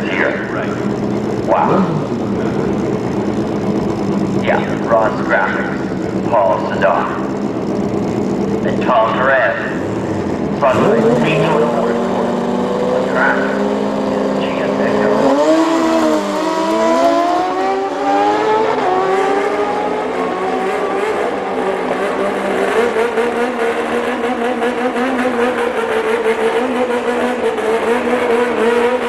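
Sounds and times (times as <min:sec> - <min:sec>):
drag bike engines accelerating: 0:00.0 - 0:29.0.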